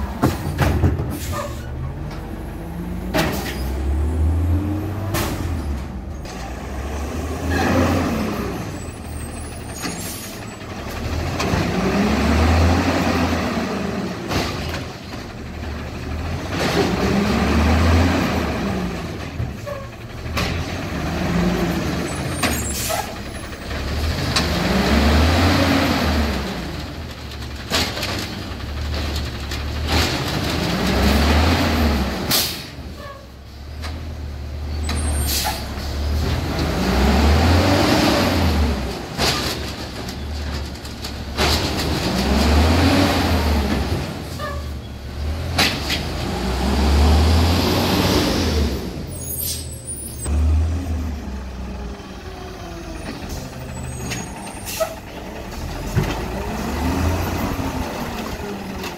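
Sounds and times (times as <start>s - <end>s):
garbage truck engine revving: 0.0s - 33.0s, 33.7s - 58.9s.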